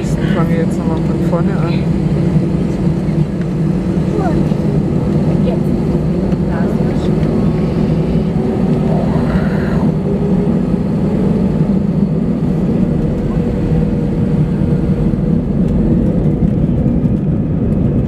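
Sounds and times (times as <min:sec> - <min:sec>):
jet engines rumbling inside cabin: 0:00.0 - 0:18.0.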